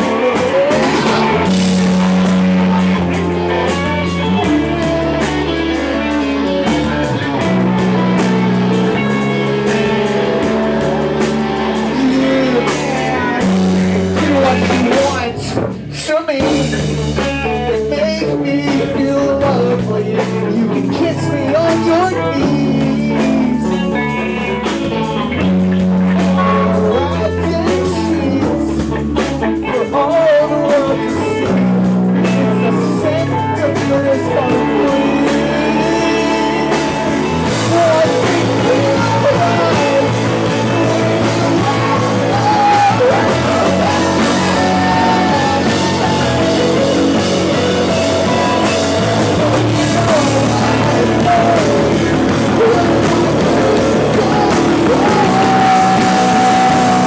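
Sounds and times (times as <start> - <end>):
bass guitar: 0.0 - 57.0
drum kit: 0.0 - 57.0
electric guitar: 0.0 - 57.0
person singing: 0.0 - 57.0.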